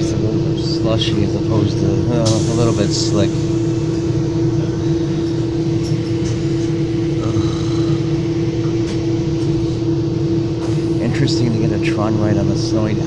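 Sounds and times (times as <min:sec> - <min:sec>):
train coach hum and rumble: 0:00.0 - 0:13.0.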